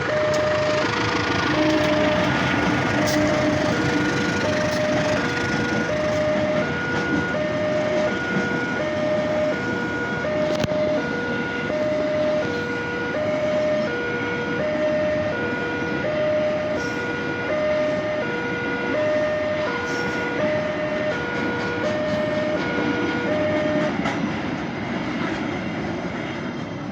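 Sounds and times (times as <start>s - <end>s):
two-tone level crossing alarm: 0.0s - 24.2s.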